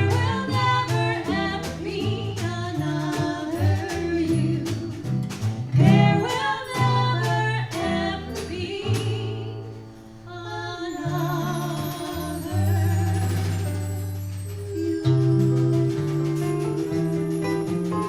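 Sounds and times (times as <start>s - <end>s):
jazz band playing live: 0.0s - 10.0s, 11.0s - 18.0s.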